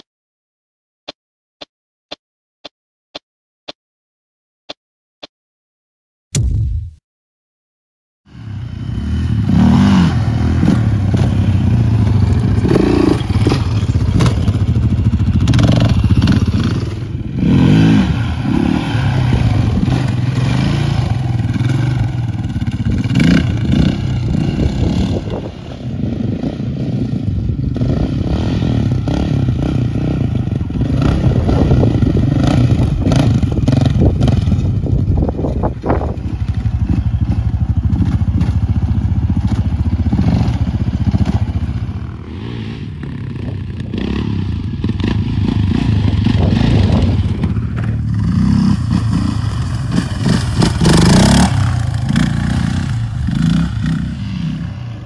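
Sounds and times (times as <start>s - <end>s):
quad engine revving: 8.3s - 55.0s.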